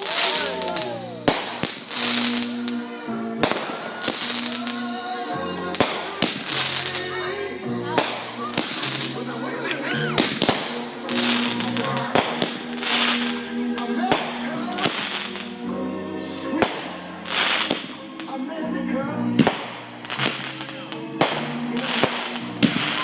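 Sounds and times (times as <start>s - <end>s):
fireworks bangs and crackling: 0.0s - 5.0s, 5.7s - 9.4s, 10.1s - 15.7s, 16.5s - 18.5s, 19.4s - 23.0s
music playing: 0.0s - 23.0s.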